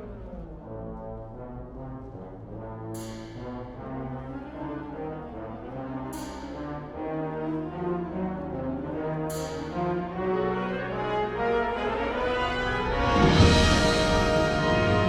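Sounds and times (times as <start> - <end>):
brass chords from wind band: 0.0 - 15.0.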